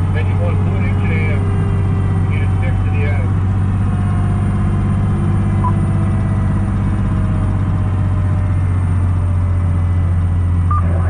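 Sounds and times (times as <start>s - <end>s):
fire truck engine running: 0.0s - 11.0s.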